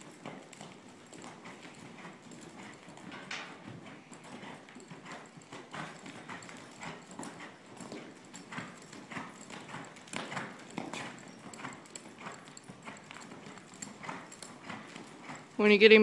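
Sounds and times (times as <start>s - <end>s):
hoofbeats on dirt: 0.0s - 16.0s.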